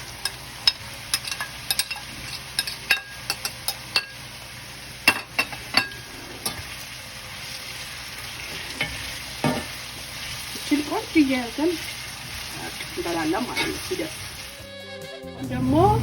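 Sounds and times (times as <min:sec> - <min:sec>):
vegetables sizzling in hot oil: 0:00.0 - 0:14.6.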